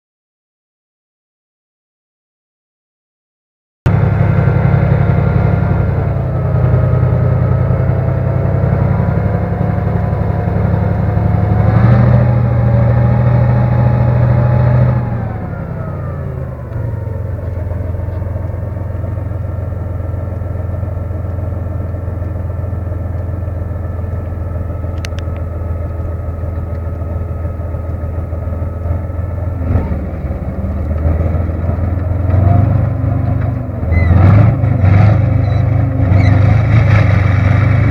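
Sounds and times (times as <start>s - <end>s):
tank engine running: 3.9s - 37.9s.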